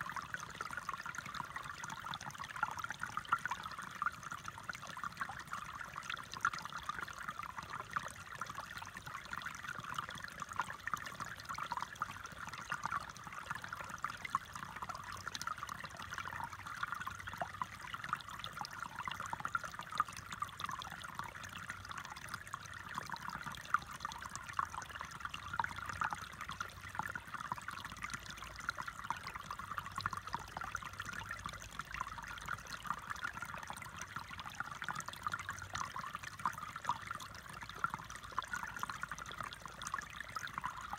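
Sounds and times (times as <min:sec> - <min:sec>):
creek trickling over stones: 0:00.0 - 0:40.9.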